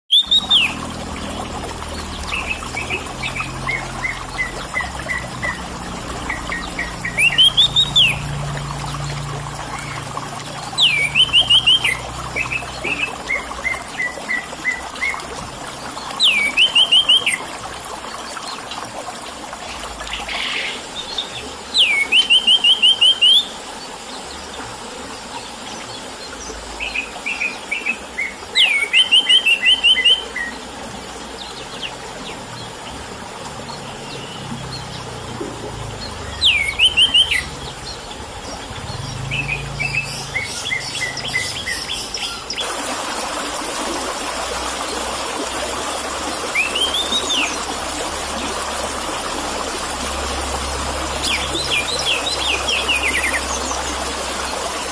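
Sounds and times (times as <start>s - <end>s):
water trickling: 0.1s - 54.9s.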